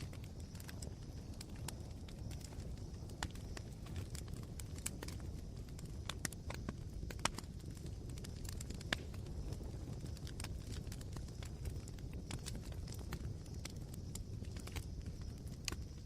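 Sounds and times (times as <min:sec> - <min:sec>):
campfire crackling: 0:00.0 - 0:16.0
fire pops and snaps: 0:00.0 - 0:16.0.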